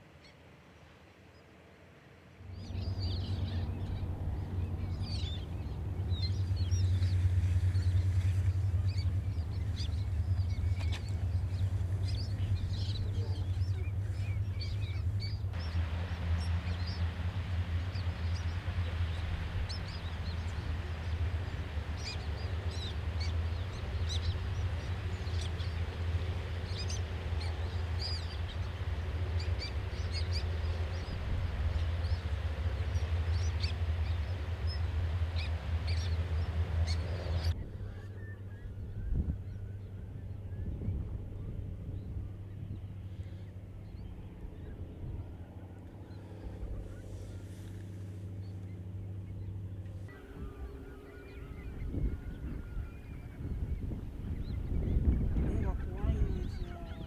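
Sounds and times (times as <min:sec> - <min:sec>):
birds chirping: 0:02.4 - 0:57.0
steady low rumble: 0:02.4 - 0:57.0.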